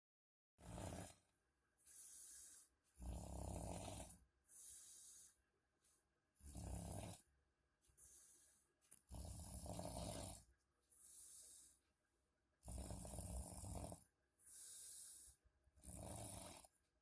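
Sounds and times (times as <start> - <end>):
faint snoring: 0.6 - 5.4, 6.3 - 7.3, 8.0 - 11.9, 12.6 - 16.8.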